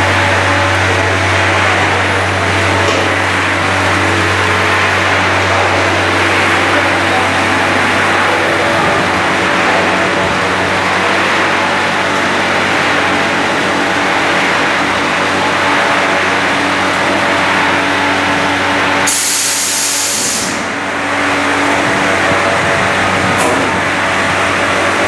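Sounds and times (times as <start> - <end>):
frying line machinery humming: 0.0 - 25.0.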